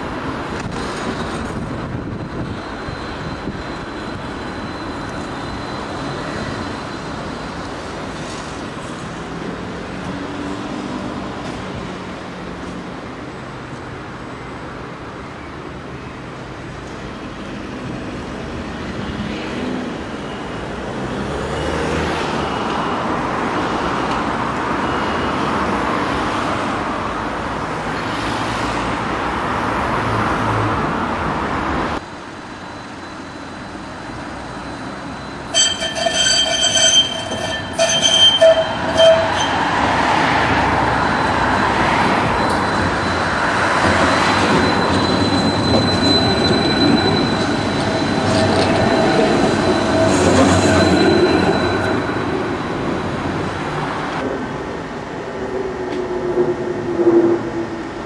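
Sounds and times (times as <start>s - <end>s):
tram wheels squealing: 0.0s - 58.0s
trams running on street track: 0.0s - 58.0s.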